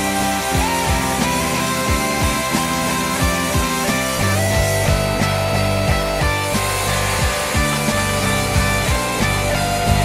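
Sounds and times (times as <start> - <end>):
instrumental rock music: 0.0 - 10.0
steady drum beat: 0.0 - 10.0.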